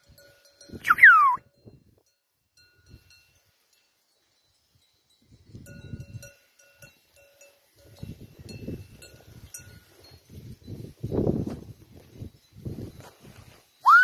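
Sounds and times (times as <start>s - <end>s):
sheep bells clinking: 0.0s - 14.0s.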